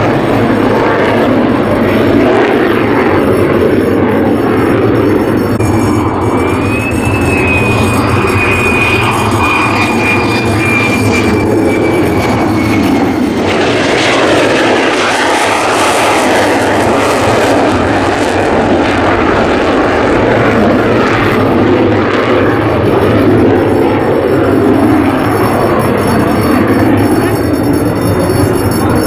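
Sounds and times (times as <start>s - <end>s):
jet engine roaring with high whine: 0.0s - 29.0s.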